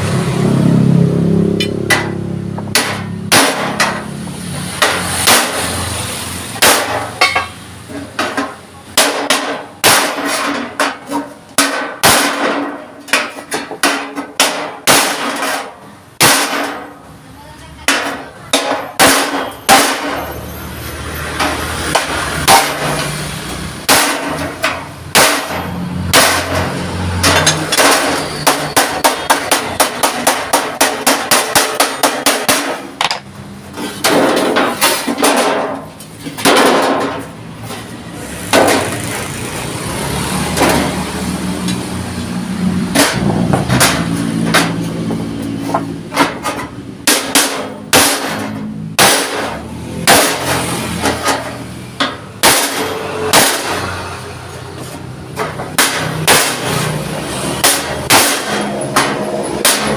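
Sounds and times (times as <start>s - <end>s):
hammer striking steel plate: 1.2s - 17.0s, 17.8s - 20.3s, 21.3s - 33.3s, 33.9s - 37.3s, 42.8s - 54.3s, 55.3s - 59.9s.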